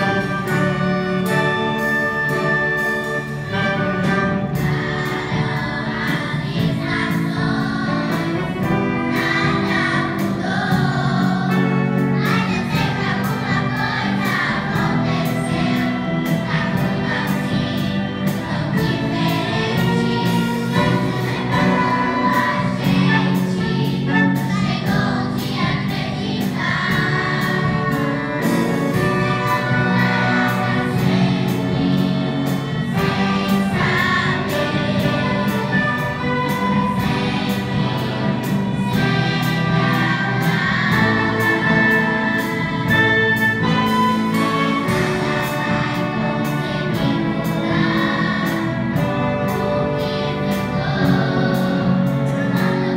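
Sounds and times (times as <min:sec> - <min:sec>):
drums: 0:00.0 - 0:52.9
string orchestra: 0:00.0 - 0:52.9
youth choir singing: 0:00.0 - 0:52.9.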